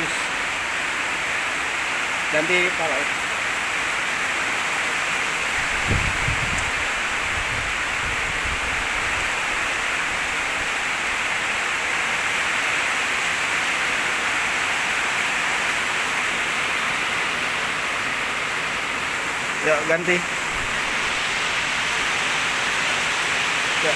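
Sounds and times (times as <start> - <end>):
high-pressure water jet hissing: 0.0 - 23.9.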